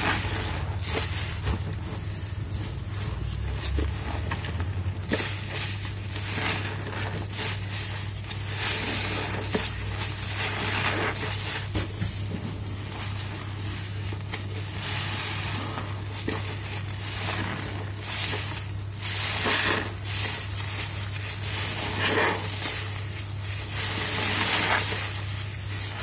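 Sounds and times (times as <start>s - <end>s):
soap suds fizzing: 0.0s - 26.0s
wet sponge squelching: 0.0s - 26.0s.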